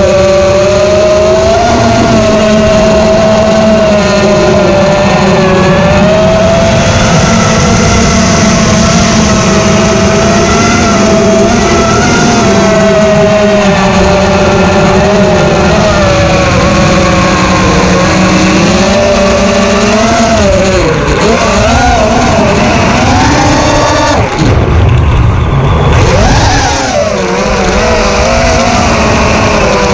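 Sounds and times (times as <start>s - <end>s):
drone motors whining: 0.0s - 29.9s.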